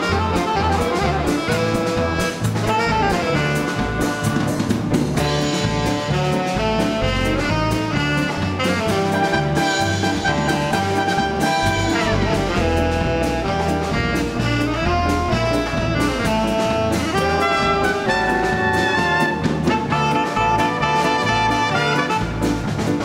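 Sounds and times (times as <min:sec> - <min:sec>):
big band playing latin music: 0:00.0 - 0:23.0.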